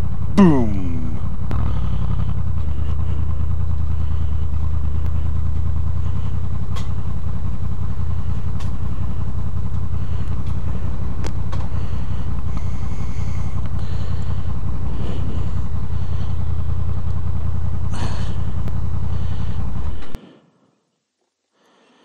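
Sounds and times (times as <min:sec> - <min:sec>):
motorcycle engine running at low revs: 0:00.0 - 0:20.2.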